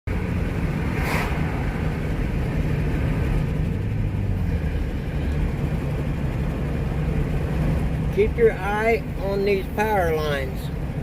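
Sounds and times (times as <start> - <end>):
vehicle engine running: 0.1 - 11.0.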